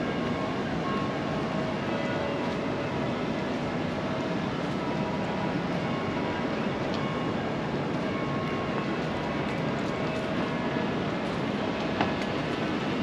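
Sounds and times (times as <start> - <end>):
city rumble and hiss: 0.0 - 13.0.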